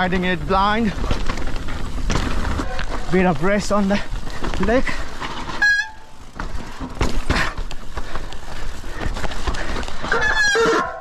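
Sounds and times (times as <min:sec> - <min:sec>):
bike knocking and rattling: 0:00.0 - 0:11.0
bike tyres on dirt trail: 0:00.0 - 0:11.0.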